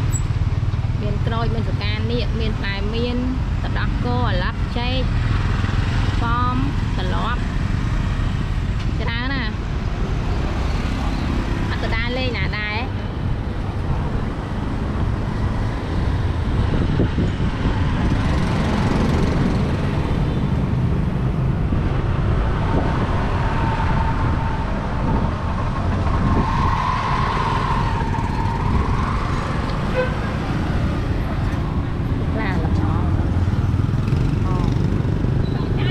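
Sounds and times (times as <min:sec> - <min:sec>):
street traffic rumble: 0:00.0 - 0:35.9.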